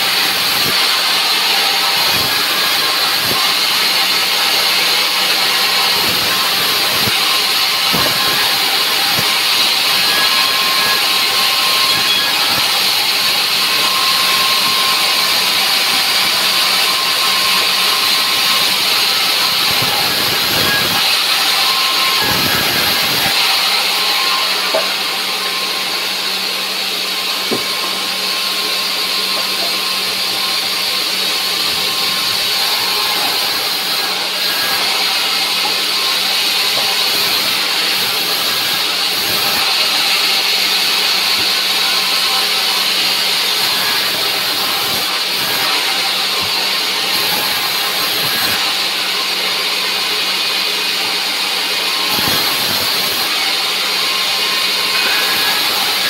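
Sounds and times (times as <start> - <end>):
band saw cutting timber: 0.0 - 56.0.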